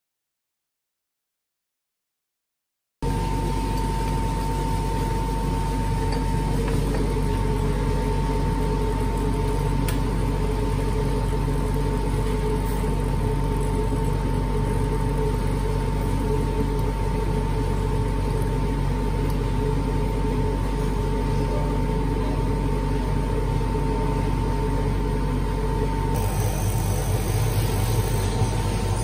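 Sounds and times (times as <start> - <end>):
machine hum with whine: 3.0 - 29.0.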